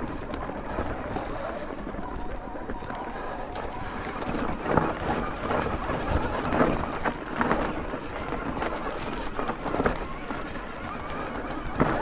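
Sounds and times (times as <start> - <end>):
bike knocking and rattling: 0.0 - 12.0
wind rushing over microphone: 0.0 - 12.0.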